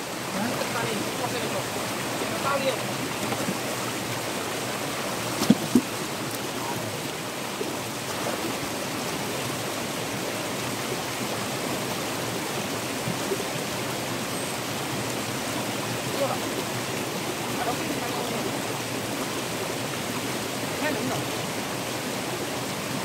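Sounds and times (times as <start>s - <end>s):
stream splashing over stones: 0.0s - 23.0s.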